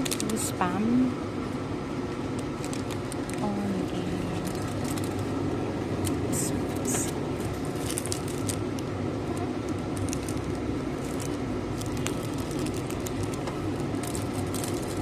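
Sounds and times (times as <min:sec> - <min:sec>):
store background hum: 0:00.0 - 0:15.0.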